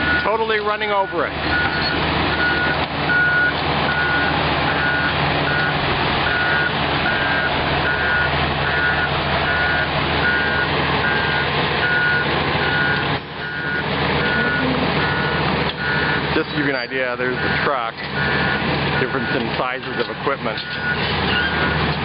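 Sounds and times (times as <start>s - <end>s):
back-up alarm beeping: 0.0s - 16.3s, 17.4s - 21.8s
diesel engine running: 0.0s - 22.0s.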